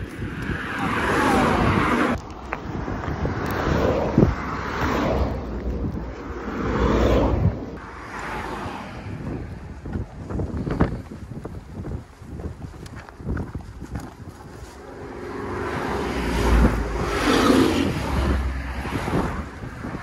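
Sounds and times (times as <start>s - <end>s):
cars passing at speed: 0.0s - 11.0s, 14.5s - 20.0s.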